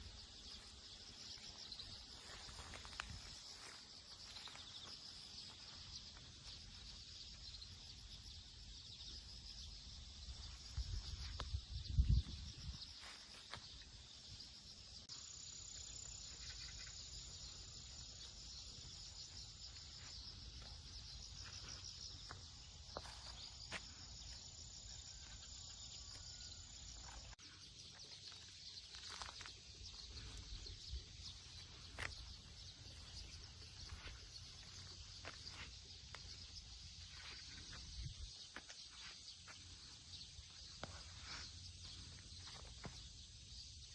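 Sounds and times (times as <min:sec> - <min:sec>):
high continuous insect trill: 0:00.0 - 0:43.9
insects chirring: 0:00.0 - 0:43.9.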